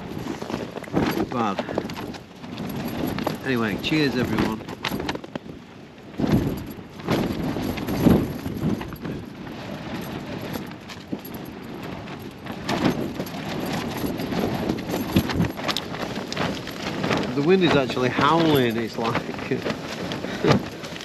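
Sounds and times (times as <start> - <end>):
gusting wind howling against tent: 0.0 - 21.0.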